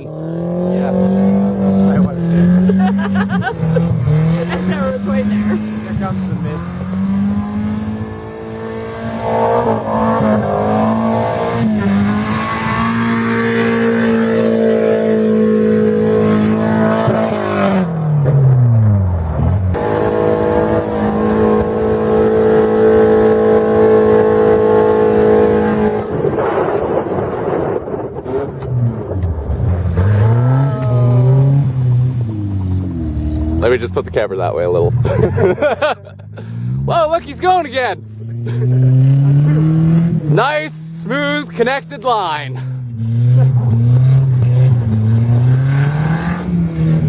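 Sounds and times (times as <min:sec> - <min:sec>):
car engine at high revs: 0:00.0 - 0:47.0.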